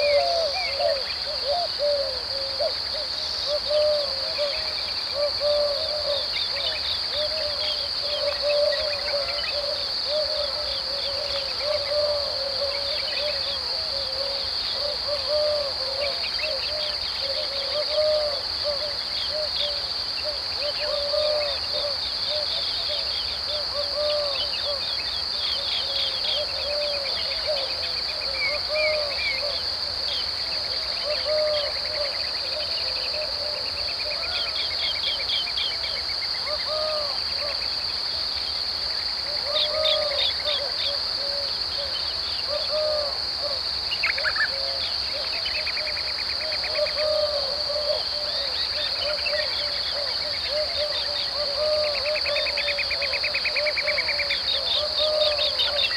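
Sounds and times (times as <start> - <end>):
insect drone: 0.0 - 55.9.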